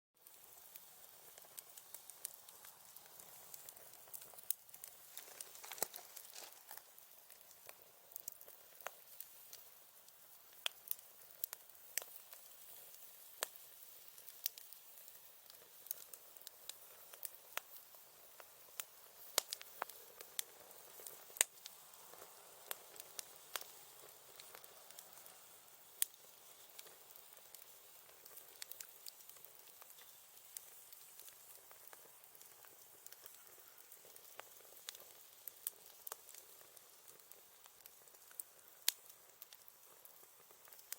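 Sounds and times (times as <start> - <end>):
campfire crackling and popping: 0.2 - 40.9
soft hiss: 0.2 - 40.9.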